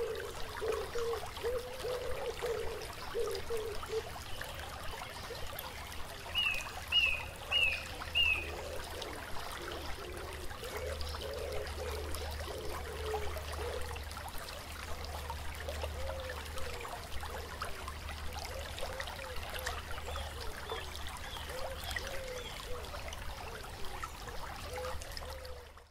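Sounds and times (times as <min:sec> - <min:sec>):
stream trickling and gurgling: 0:00.0 - 0:25.9.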